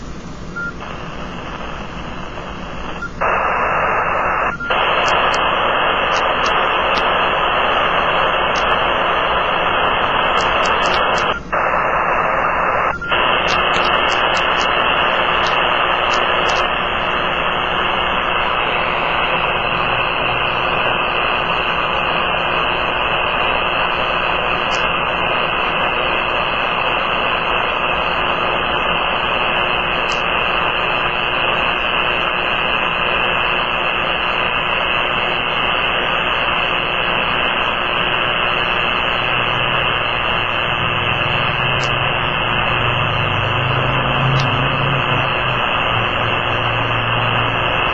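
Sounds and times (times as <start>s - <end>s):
radio interference noise: 0.6s - 47.9s.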